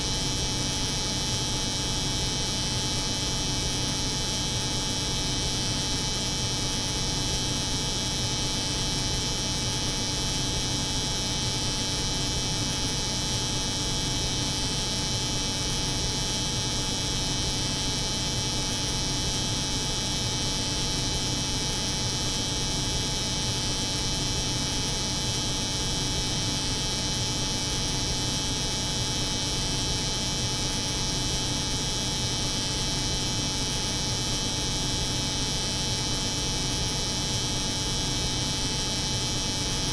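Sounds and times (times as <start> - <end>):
cold room hum: 0.0 - 39.9.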